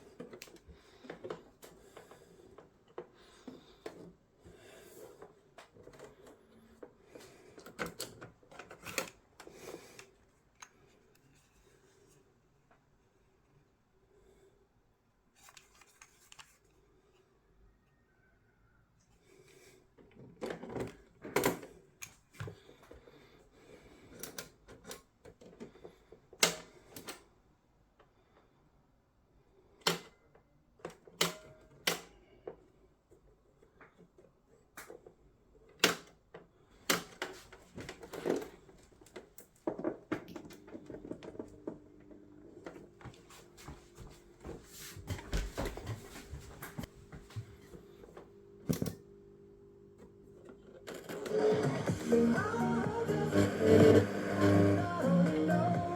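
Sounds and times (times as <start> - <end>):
faint hum with held tones: 0.0 - 55.9.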